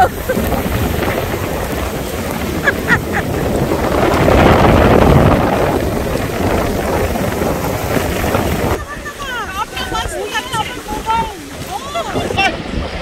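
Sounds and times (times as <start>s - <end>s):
sea surf breaking: 0.0s - 13.0s
wind buffeting microphone: 0.0s - 13.0s.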